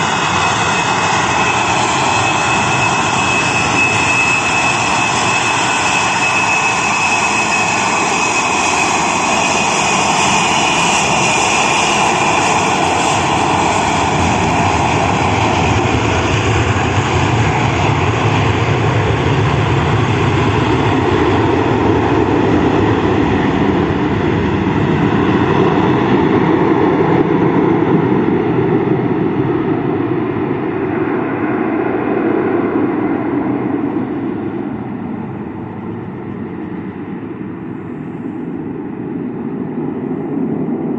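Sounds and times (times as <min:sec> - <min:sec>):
high engine whine: 0:00.0 - 0:40.9
jet engines roaring: 0:00.0 - 0:40.9.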